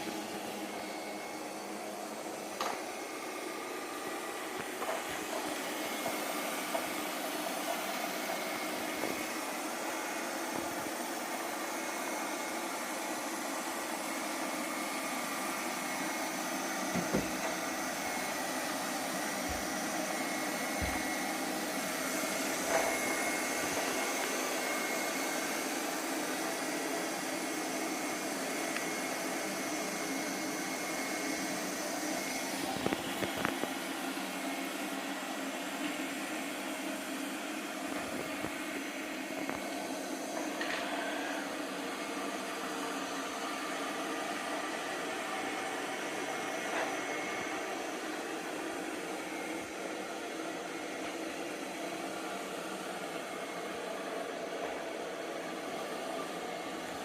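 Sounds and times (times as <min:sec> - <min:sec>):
robot vacuum running: 0:00.0 - 0:57.0.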